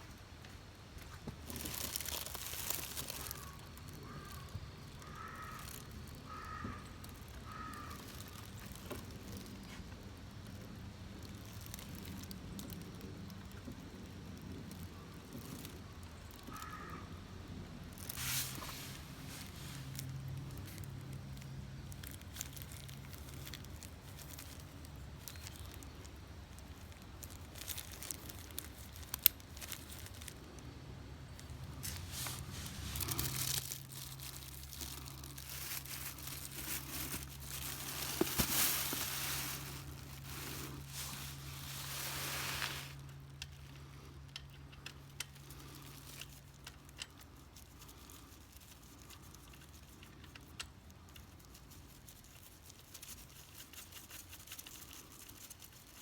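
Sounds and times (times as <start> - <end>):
hands rustling and crinkling: 0.4 - 17.0, 17.8 - 30.7, 31.3 - 56.0.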